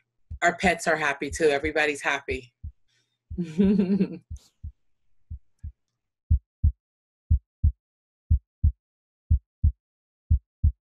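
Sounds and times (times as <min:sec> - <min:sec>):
heartbeat thumps: 0:00.3 - 0:05.5, 0:06.6 - 0:11.0.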